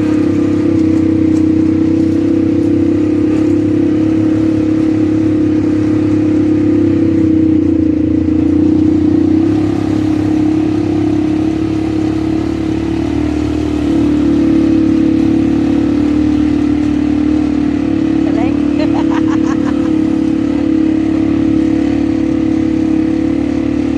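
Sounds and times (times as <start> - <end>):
atv engine running: 0.0 - 23.9.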